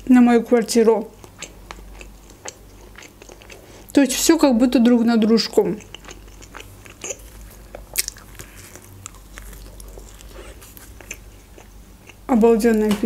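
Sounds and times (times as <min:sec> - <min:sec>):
chewing pizza: 0:00.6 - 0:04.0, 0:05.2 - 0:12.9.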